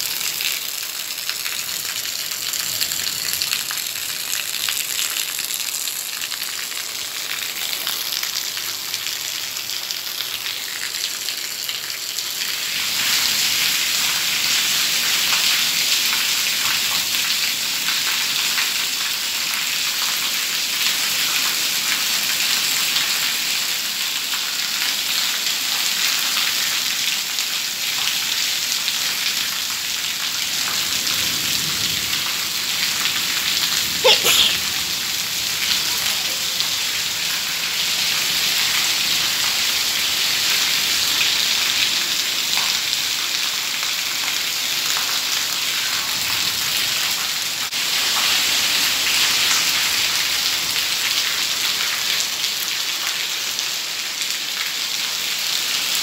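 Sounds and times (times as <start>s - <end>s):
heavy rain on pavement and roof: 0.0s - 56.0s.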